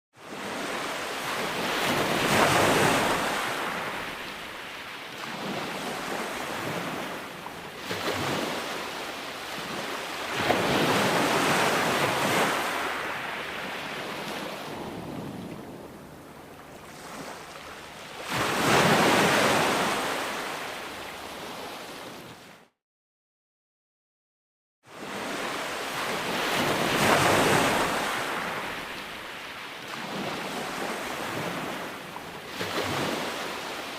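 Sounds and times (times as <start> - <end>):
ocean waves breaking: 0.2 - 22.7, 24.9 - 33.9.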